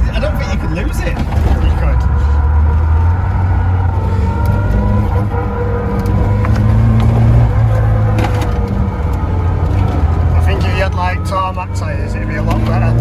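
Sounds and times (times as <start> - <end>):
car engine running: 0.0 - 13.0
road and tyre noise: 0.0 - 13.0.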